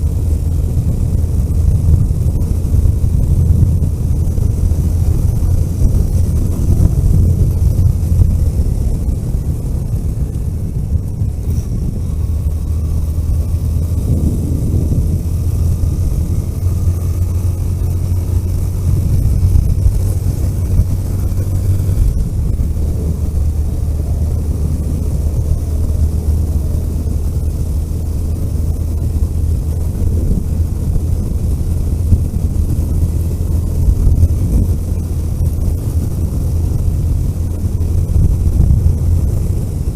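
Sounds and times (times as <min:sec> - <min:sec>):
car engine droning: 0:00.0 - 0:39.9
road and tyre noise: 0:00.0 - 0:39.9.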